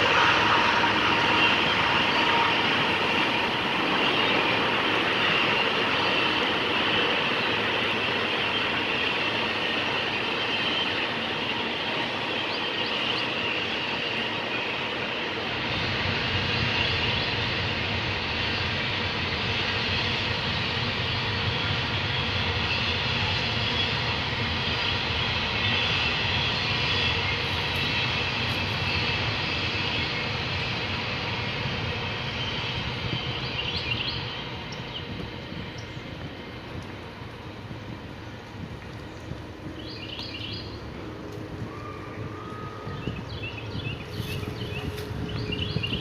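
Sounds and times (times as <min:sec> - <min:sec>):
passing train rumble: 0:00.0 - 0:46.0.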